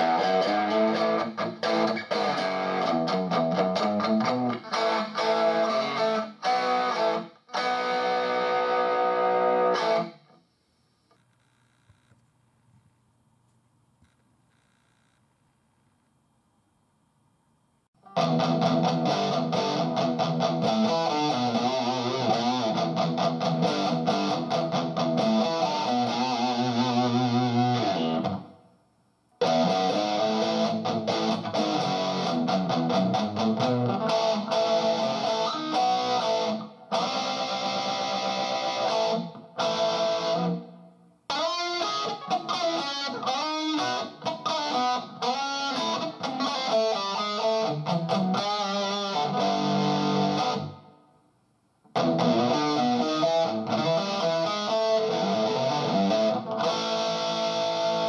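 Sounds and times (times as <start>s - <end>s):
overdriven electric guitar: 0.0s - 10.4s, 18.0s - 28.6s, 29.4s - 50.9s, 51.9s - 58.0s.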